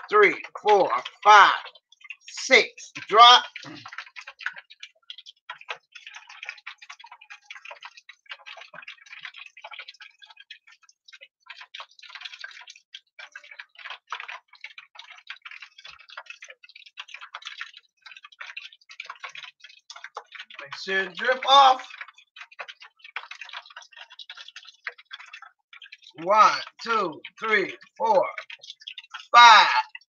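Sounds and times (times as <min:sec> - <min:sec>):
fish deep-frying in oil: 0:00.0 - 0:30.0.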